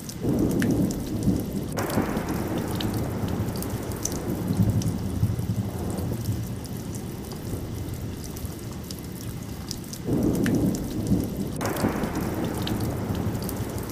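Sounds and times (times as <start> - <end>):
raindrops ticking: 0.0 - 13.9
steady rain: 0.0 - 13.9
thunder rumbling: 0.2 - 13.9.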